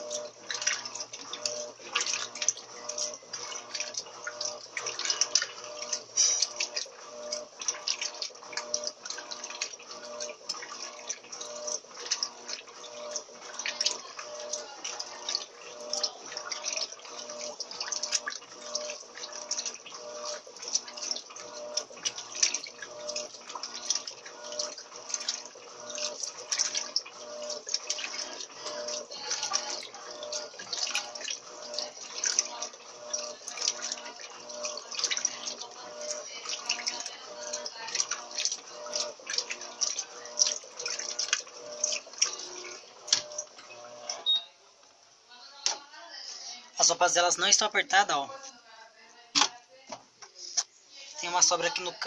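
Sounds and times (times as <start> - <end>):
water sloshing in washing machine: 0.0 - 44.7, 45.3 - 52.0
washing machine motor humming: 0.0 - 52.0.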